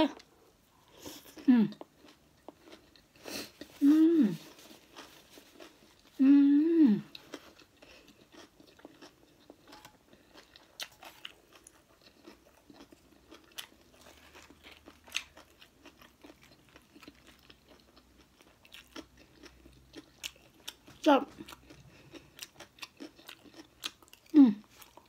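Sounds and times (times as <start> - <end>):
chewing with small crunches: 0.1 - 6.2, 6.9 - 25.0.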